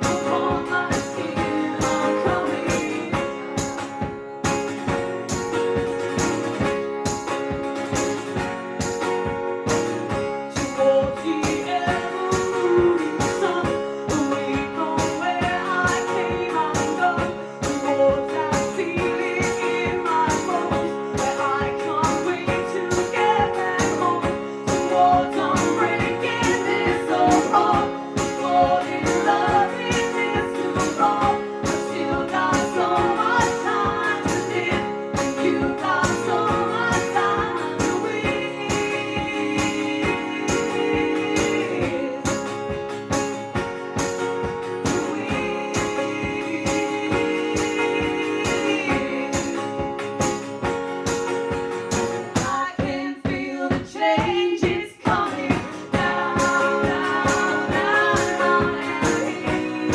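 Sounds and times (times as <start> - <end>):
person singing: 0.0 - 5.7, 10.4 - 43.4, 44.8 - 50.5, 52.0 - 59.9
strummed guitars: 0.0 - 53.4, 54.8 - 59.9
percussive beat: 0.0 - 59.9.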